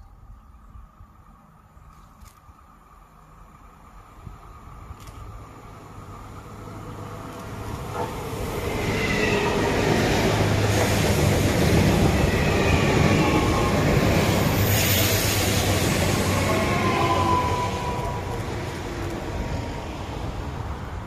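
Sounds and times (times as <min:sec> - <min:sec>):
train wheels rumbling on rail: 0:01.3 - 0:21.0.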